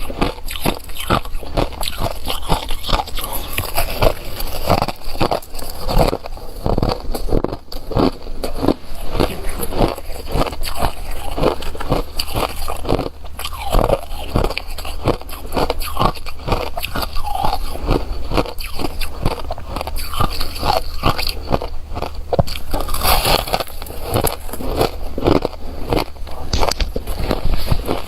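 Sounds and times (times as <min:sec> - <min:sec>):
person crunching ice: 0:00.0 - 0:28.0.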